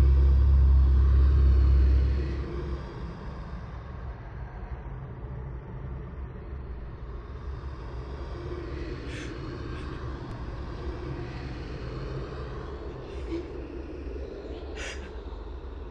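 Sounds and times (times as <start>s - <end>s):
low rumbling drone: 0.0s - 15.9s.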